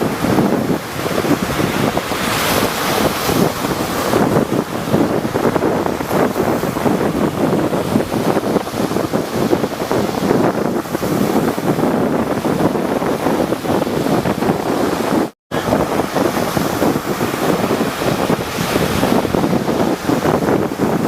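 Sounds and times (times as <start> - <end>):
waves breaking: 0.0 - 21.0
wind buffeting microphone: 0.0 - 21.0.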